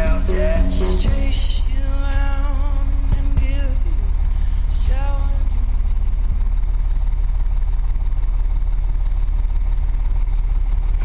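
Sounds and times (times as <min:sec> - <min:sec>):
machinery engine rumbling: 0:00.0 - 0:11.0.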